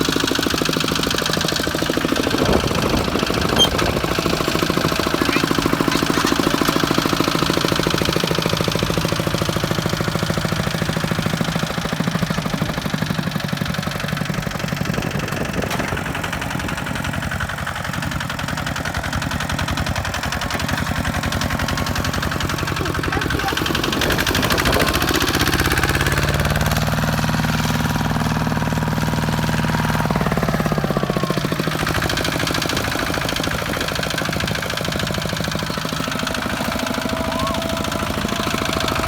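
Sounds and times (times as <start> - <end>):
diesel engine chugging: 0.0 - 39.0.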